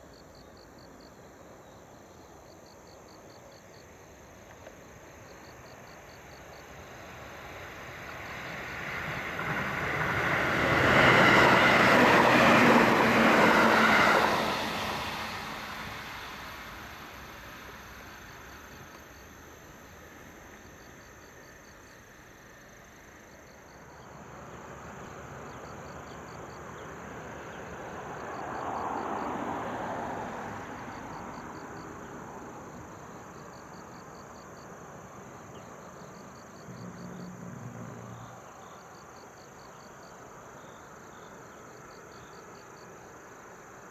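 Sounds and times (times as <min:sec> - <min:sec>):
insects chirping: 0:00.0 - 0:43.9
electric train passing: 0:02.6 - 0:43.8.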